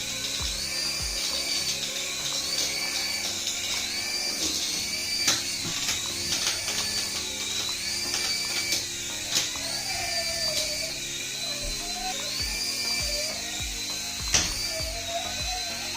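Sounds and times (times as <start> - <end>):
small toy motor whine: 0.0 - 15.9.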